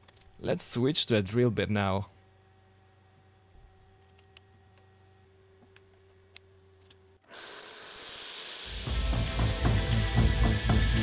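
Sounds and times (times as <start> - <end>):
faint workshop hum: 0.0 - 11.0.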